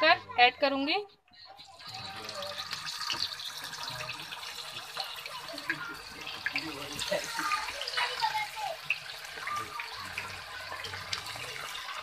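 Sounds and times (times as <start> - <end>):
chicken sizzling in hot oil: 1.6 - 12.0.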